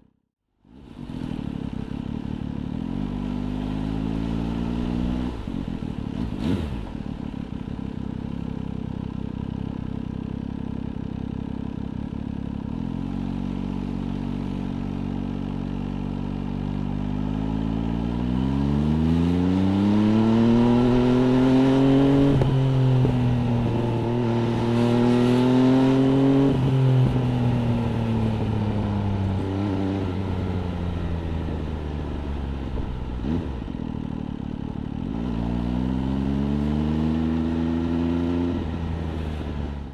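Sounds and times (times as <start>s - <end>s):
motorcycle engine revving: 0.9s - 39.9s.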